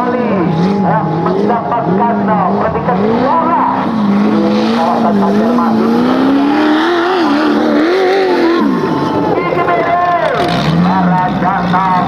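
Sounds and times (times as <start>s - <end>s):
off-road vehicle engine accelerating: 0.0s - 12.0s.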